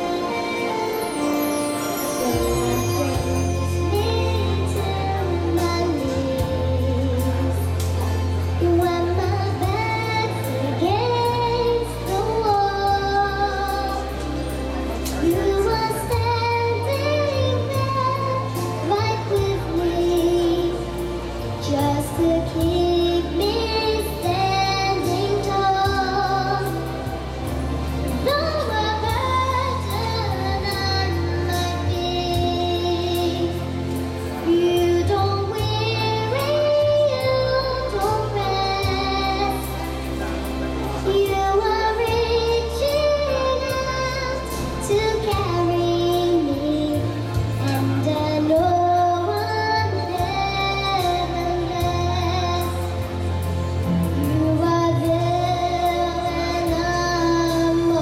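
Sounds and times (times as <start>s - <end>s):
backing music with bass line: 0.0s - 58.0s
girl singing into a microphone: 0.0s - 58.0s.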